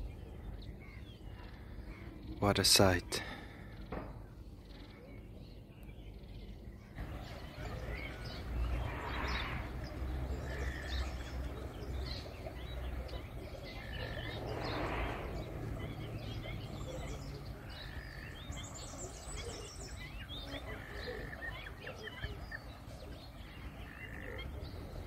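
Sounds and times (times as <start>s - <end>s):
birds chirping: 0.0s - 25.0s
low outdoor rumble: 0.0s - 25.0s.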